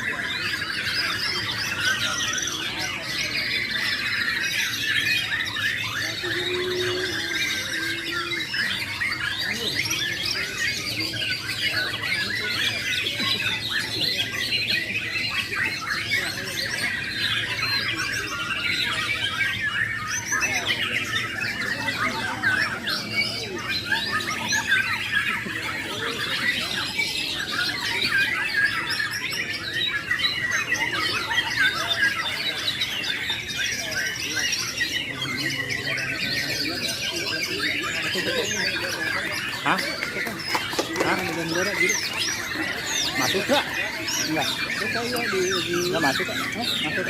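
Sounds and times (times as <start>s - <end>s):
chorus of songbirds singing: 0.0s - 47.0s.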